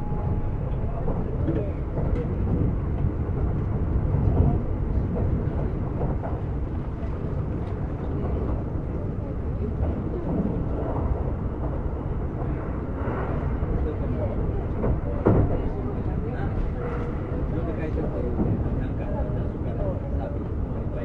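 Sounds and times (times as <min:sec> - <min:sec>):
train rumble inside cabin: 0:00.0 - 0:21.0.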